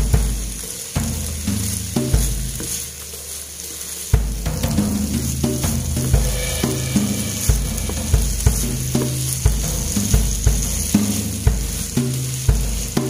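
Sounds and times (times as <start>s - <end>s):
low rhythmic bass beat: 0.0s - 13.0s
oil sizzling in pan: 0.0s - 13.0s
wooden spatula scraping pan: 0.0s - 13.0s.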